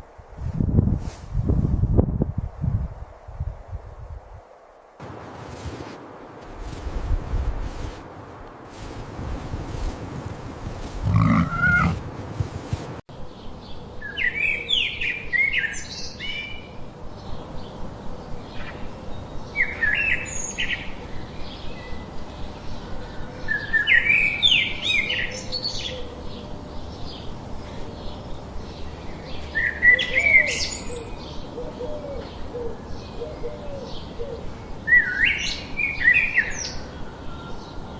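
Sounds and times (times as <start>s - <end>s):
outdoor background noise: 0.0s - 37.9s
songbird singing: 5.0s - 37.9s.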